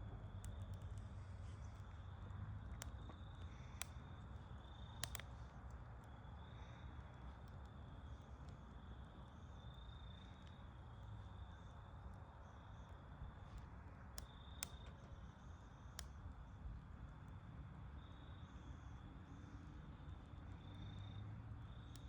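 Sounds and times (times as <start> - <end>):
bonfire crackling: 0.0 - 22.0.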